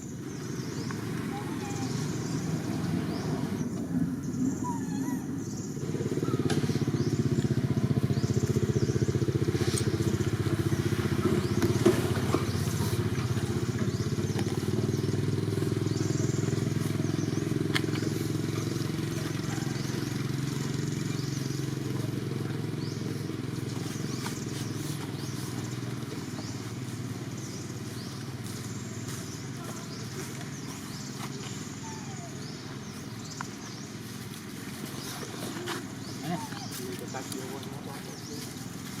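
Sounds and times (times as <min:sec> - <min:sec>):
engine running: 0:00.0 - 0:39.0.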